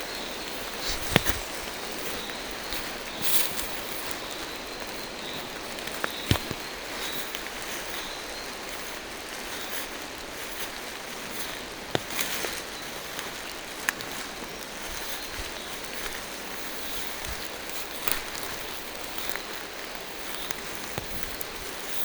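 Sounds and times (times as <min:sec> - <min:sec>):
rain falling through trees: 0:00.0 - 0:22.0
raindrops tapping: 0:00.0 - 0:22.0.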